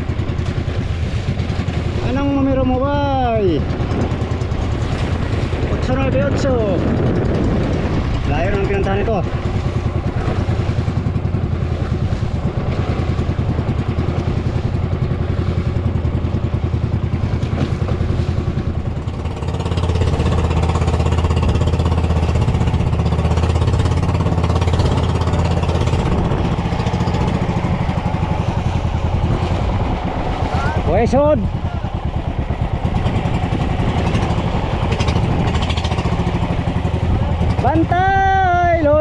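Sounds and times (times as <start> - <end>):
boat engine chugging: 0.0 - 39.0.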